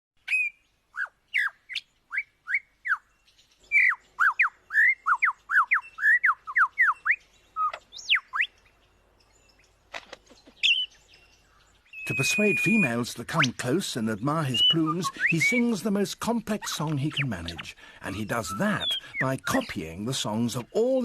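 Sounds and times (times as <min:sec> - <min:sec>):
bird whistling song: 0:00.2 - 0:09.8, 0:10.4 - 0:21.0.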